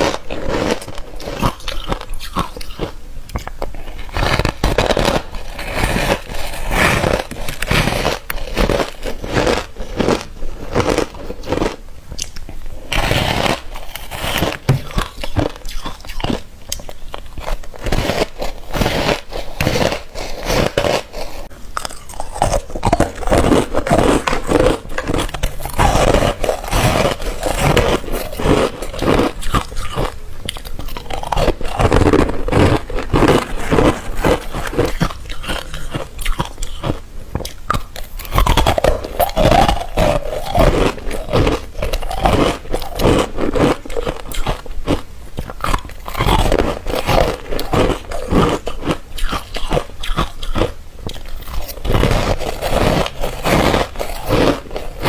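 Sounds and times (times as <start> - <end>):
teeth crunching ice: 0.0 - 55.0.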